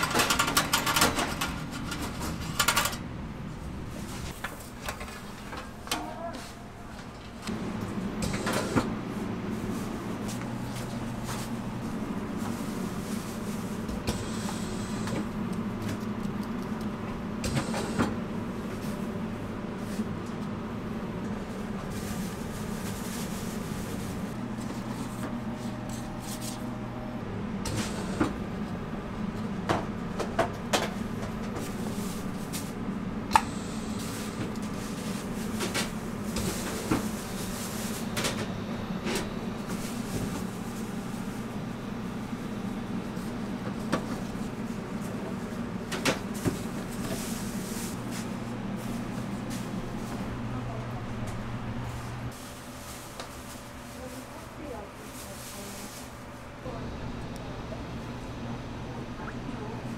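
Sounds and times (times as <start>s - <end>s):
kitchen equipment hum: 0.0s - 59.9s.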